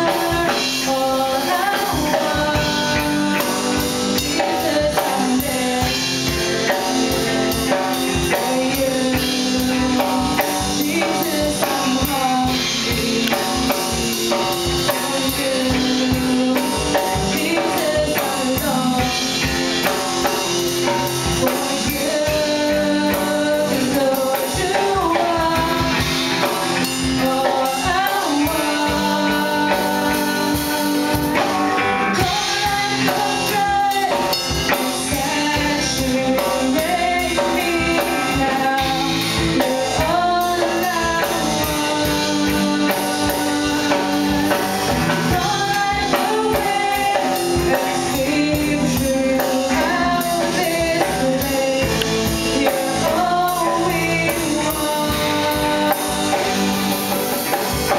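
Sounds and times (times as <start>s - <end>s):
acoustic guitar: 0.0s - 57.9s
bass guitar: 0.0s - 57.9s
drum kit beat: 0.0s - 57.9s
electric guitar: 0.0s - 57.9s
woman singing lead: 0.0s - 57.9s.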